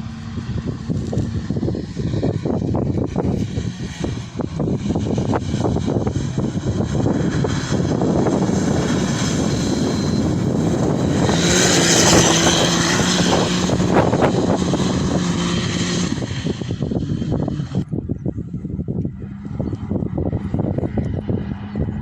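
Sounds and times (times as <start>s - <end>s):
motor droning: 0.0s - 22.0s
rough rumble: 0.0s - 22.0s.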